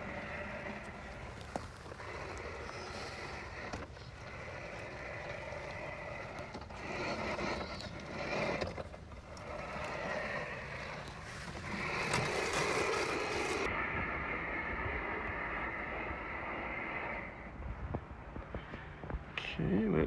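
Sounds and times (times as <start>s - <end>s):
robot lawn mower whirring: 0.0s - 17.2s.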